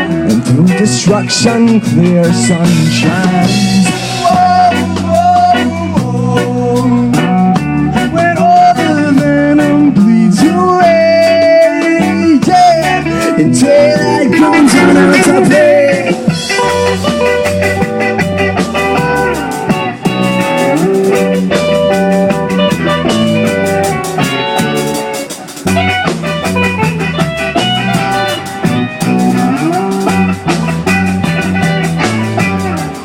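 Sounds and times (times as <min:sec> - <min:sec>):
low bass line: 0:00.0 - 0:25.0, 0:25.6 - 0:33.0
drum kit beat: 0:00.0 - 0:33.0
electric guitar: 0:00.0 - 0:33.0.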